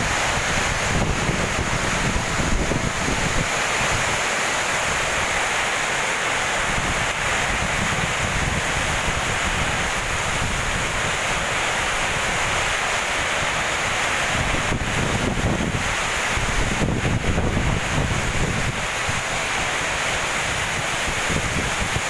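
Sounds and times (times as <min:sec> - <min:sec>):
wind buffeting microphone: 0:00.0 - 0:04.3, 0:06.6 - 0:12.8, 0:14.3 - 0:22.0
heavy wind-driven rain: 0:00.0 - 0:22.0.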